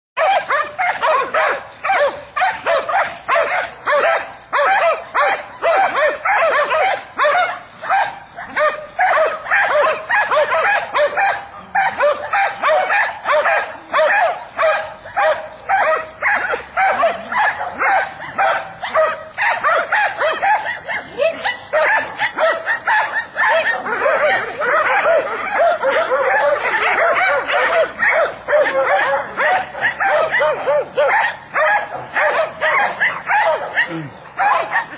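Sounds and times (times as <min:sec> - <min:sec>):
dogs barking and yipping: 0:00.2 - 0:34.9.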